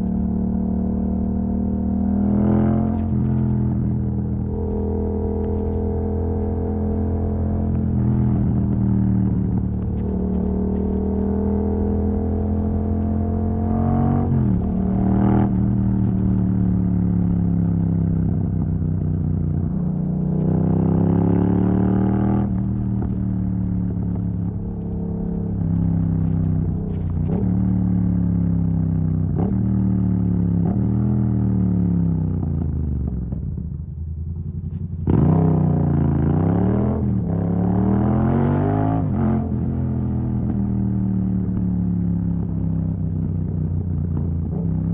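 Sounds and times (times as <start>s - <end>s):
motorcycle engine revving: 0.0s - 33.1s, 34.6s - 44.9s.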